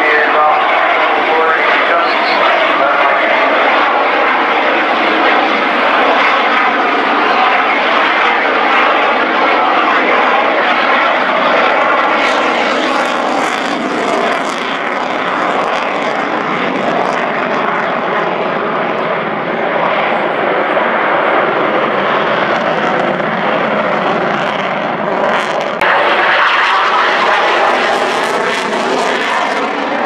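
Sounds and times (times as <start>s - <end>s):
jet engines roaring overhead: 0.0s - 30.0s.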